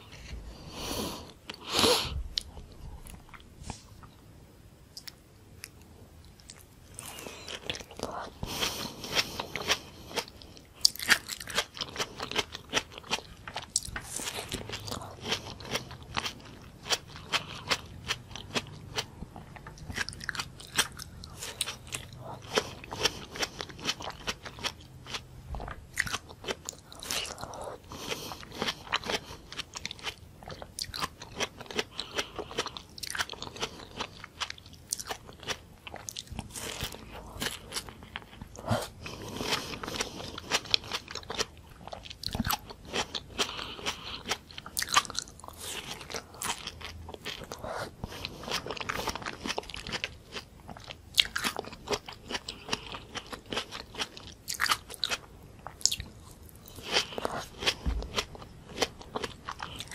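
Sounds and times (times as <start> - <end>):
person chewing crunchy tomato: 4.9 - 59.9.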